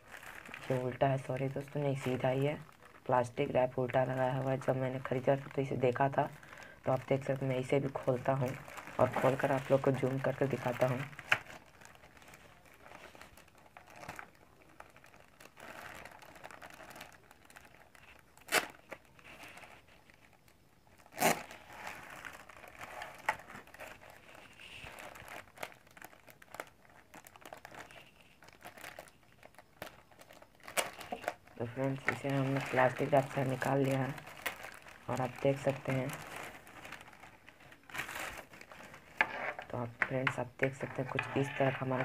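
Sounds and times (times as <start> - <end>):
plastic wrap crinkling: 0.0 - 42.0.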